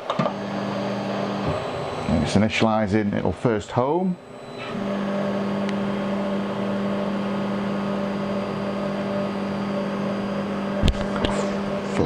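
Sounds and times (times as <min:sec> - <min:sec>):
stepper motor hum: 0:00.0 - 0:12.0.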